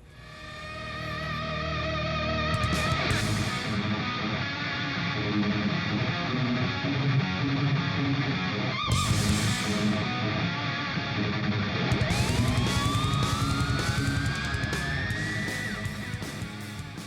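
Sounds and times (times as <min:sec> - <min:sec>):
electric guitar music with beat: 0:00.5 - 0:17.0.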